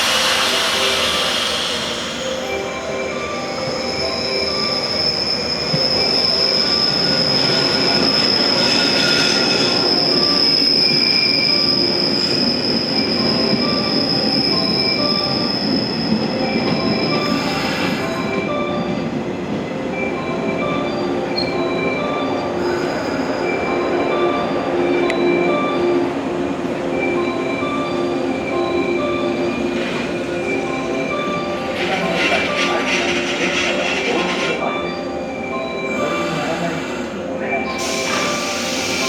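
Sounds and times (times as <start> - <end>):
train brakes squealing: 0.0 - 19.2, 20.0 - 26.1, 26.8 - 39.0.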